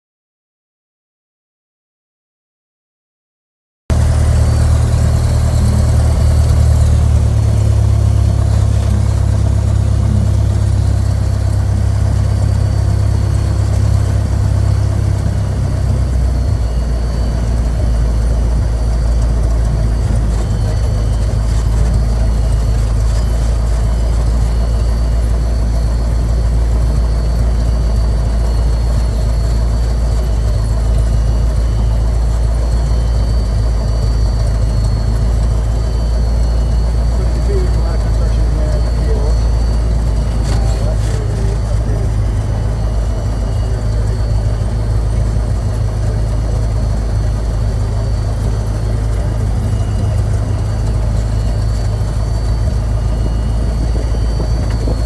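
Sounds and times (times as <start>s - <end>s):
light aircraft engine and propeller: 3.9s - 55.0s.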